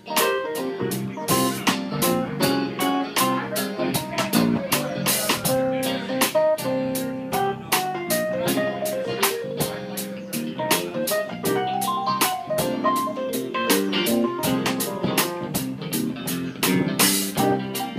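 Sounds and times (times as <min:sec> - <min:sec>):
drum kit: 0:00.0 - 0:17.9
electric guitar: 0:00.0 - 0:17.9.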